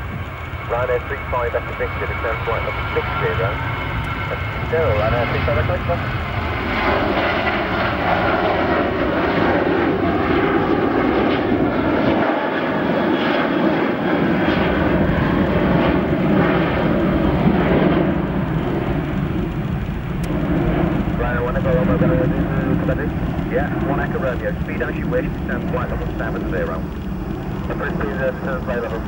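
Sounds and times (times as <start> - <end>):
loud jet engine roar: 0.0 - 29.0.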